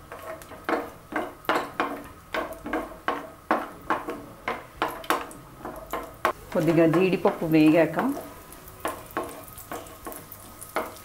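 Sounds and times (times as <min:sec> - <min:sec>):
nuts frying in oil: 0:00.0 - 0:11.0
wooden spatula knocking on pan: 0:00.1 - 0:11.0.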